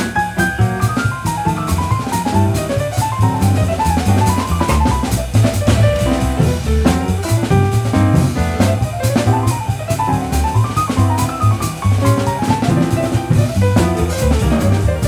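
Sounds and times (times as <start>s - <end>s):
drum kit cymbals and drums: 0.0s - 15.0s
upright piano: 0.0s - 15.0s
walking double bass: 0.0s - 15.0s.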